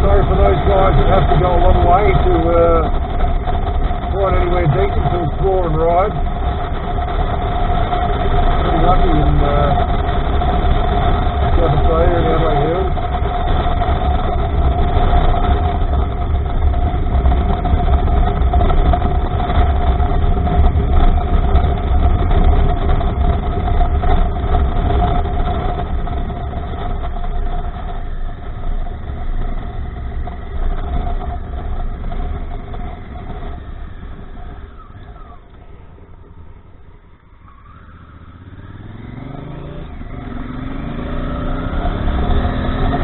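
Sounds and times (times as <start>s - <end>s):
motorcycle engine running: 0.0s - 43.0s
wind rumble on microphone: 0.0s - 43.0s.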